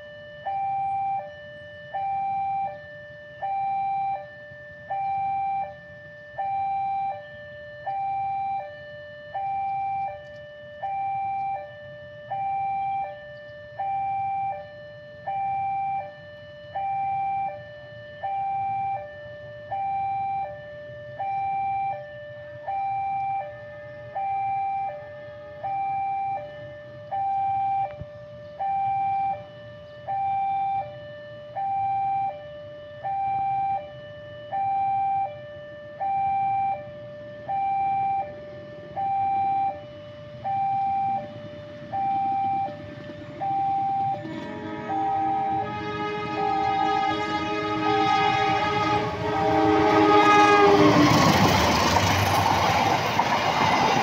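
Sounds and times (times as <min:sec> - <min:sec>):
two-tone level crossing alarm: 0:00.0 - 0:54.0.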